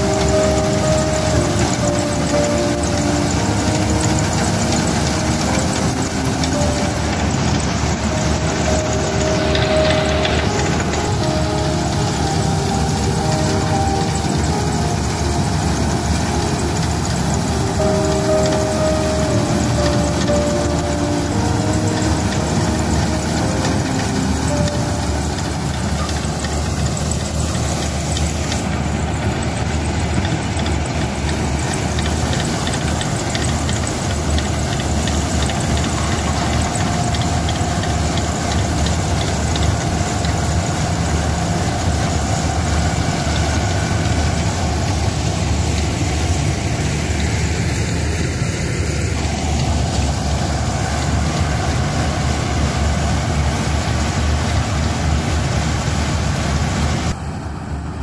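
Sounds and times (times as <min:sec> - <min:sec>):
combine harvester engine and threshing: 0:00.0 - 0:58.0.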